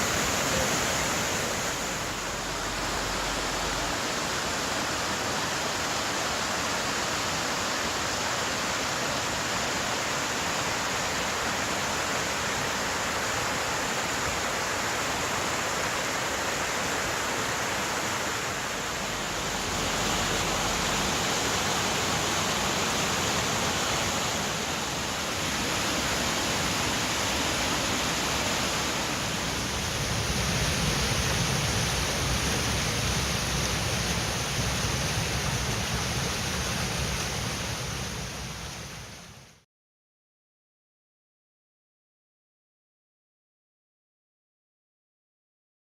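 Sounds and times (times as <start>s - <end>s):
fast-flowing river water rushing: 0.0s - 39.3s.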